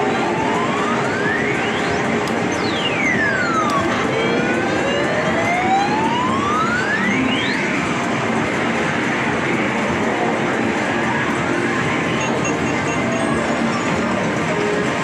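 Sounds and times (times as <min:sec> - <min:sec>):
arcade machine din: 0:00.0 - 0:15.0.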